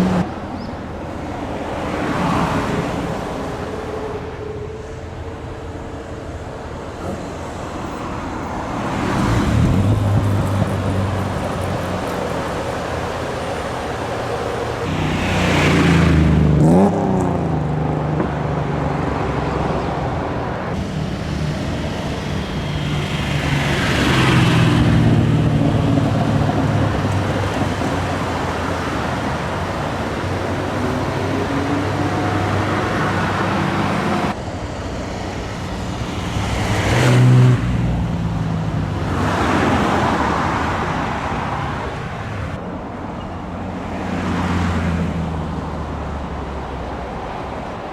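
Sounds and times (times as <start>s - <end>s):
car engines revving: 0.0s - 3.9s, 7.0s - 47.9s.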